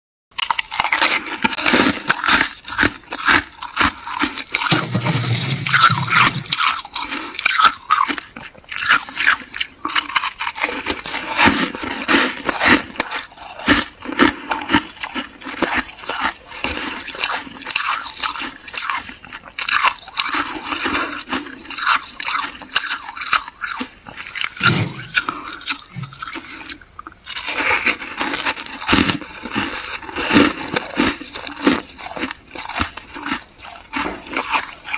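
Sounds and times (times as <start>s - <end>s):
freezer frost crunching: 0.4s - 34.9s.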